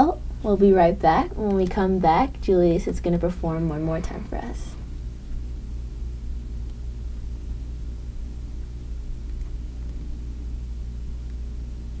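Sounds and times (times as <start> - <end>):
low hum with faint buzz: 0.0 - 12.0.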